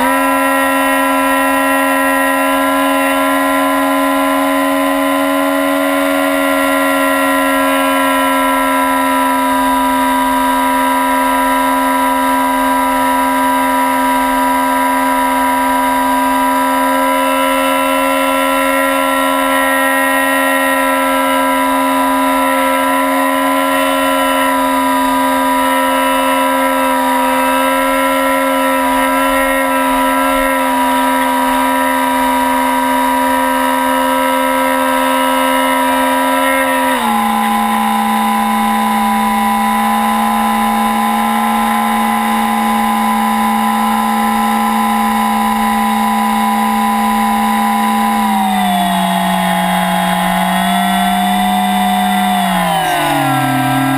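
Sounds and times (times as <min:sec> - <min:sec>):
model airplane motor whining: 0:00.0 - 0:53.9.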